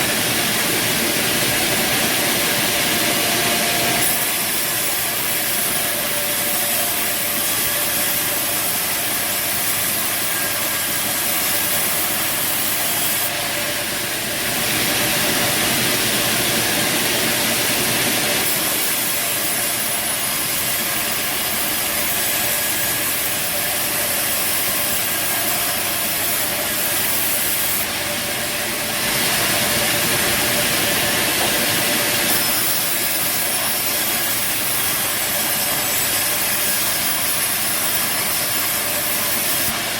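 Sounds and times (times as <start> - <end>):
bandsaw cutting timber: 0.0 - 39.9.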